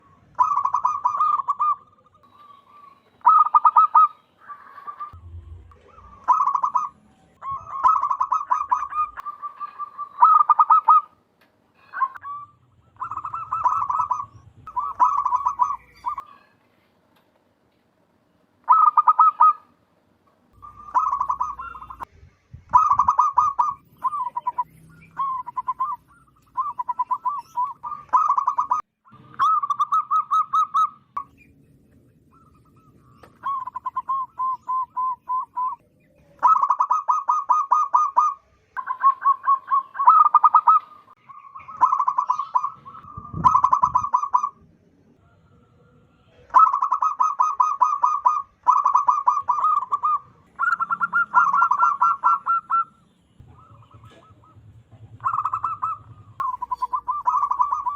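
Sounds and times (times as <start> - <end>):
dove cooing: 0.0 - 11.2, 11.8 - 16.5, 18.7 - 19.7, 20.6 - 22.1, 22.7 - 31.0, 32.3 - 44.6, 45.2 - 57.9.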